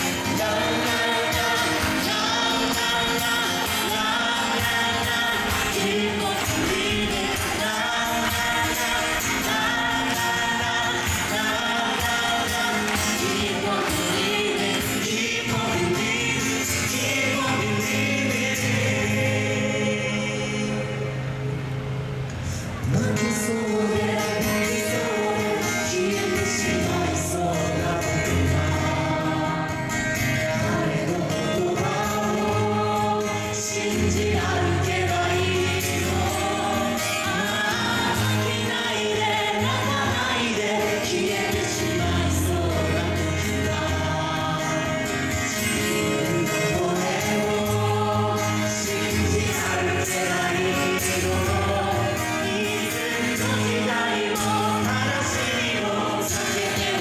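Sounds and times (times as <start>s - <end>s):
several voices singing: 0.0s - 21.8s, 22.4s - 57.0s.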